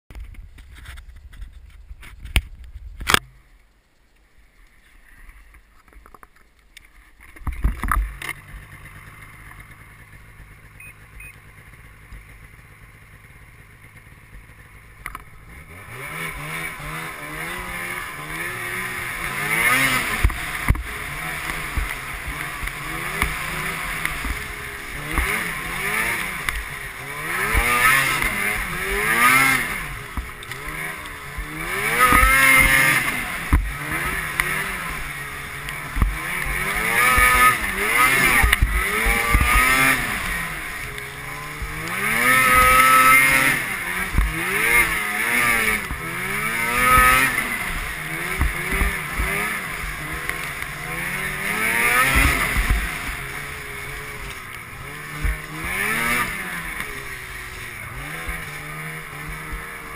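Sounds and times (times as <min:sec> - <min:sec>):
snowmobile engine revving: 0:07.7 - 0:59.9.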